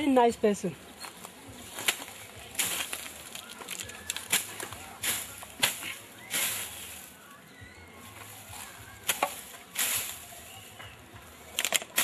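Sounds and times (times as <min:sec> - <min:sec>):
grass rustling and tearing: 0:01.1 - 0:12.0.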